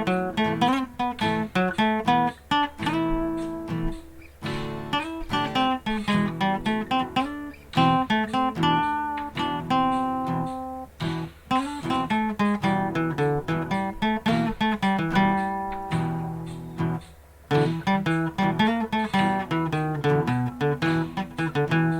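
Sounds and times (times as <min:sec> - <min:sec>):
acoustic guitar blues: 0:00.0 - 0:21.9.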